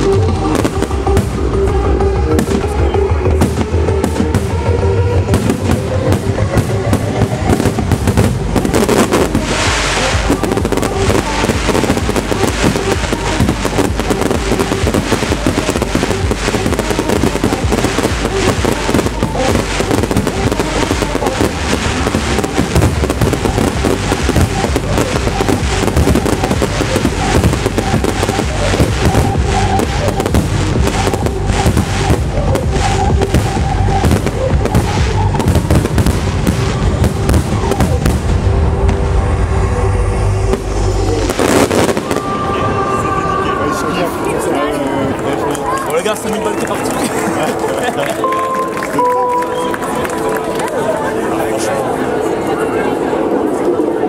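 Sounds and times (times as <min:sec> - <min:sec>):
fireworks bursting and crackling: 0:00.0 - 0:44.4, 0:45.1 - 0:52.4
loud trance music: 0:00.0 - 0:44.4.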